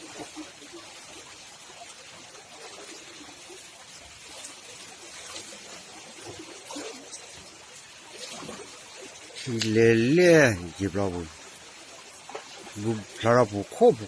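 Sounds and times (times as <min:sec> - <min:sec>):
floodwater flowing: 0:00.0 - 0:14.0.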